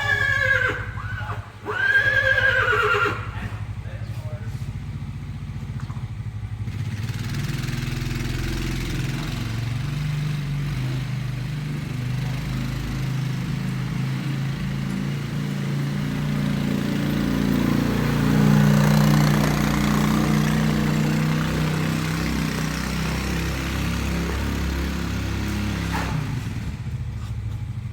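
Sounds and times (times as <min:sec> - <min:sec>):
engine running: 0:00.0 - 0:27.9.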